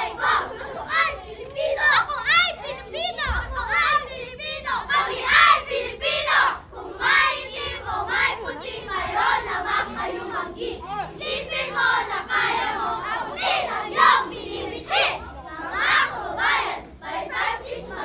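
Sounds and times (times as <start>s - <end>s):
children singing: 0.0s - 18.0s
children's voices overlapping: 0.0s - 18.0s.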